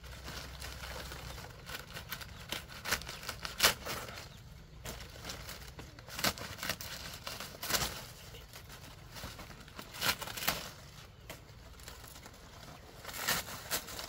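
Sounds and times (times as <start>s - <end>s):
dry leaf thatch crackling: 0.0s - 14.0s
thatch crunching: 0.0s - 14.0s.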